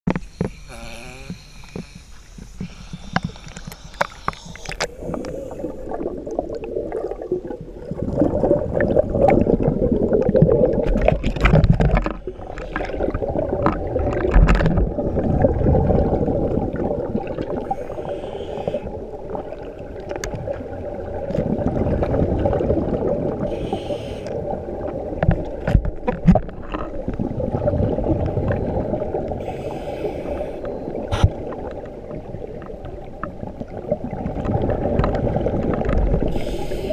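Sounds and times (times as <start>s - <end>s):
exhaled bubbles rushing underwater: 1.2s - 36.9s.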